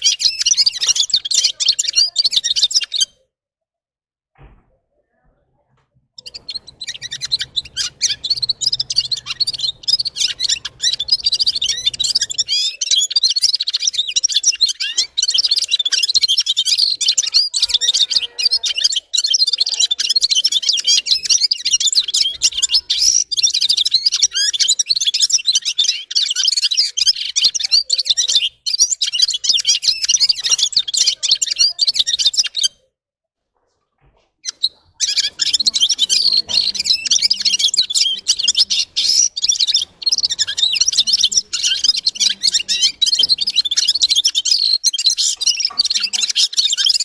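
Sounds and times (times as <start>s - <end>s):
bird twittering song: 0.0s - 3.2s, 6.2s - 32.8s, 34.4s - 47.0s.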